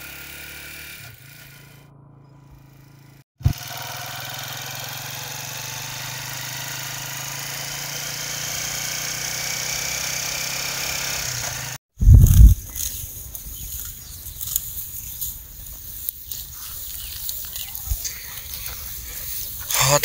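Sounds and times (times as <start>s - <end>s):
vehicle engine running: 0.0s - 13.0s, 13.7s - 20.0s.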